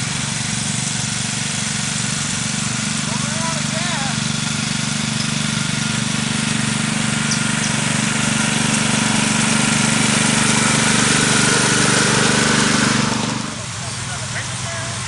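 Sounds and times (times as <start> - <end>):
small locomotive engine running: 0.0 - 15.0.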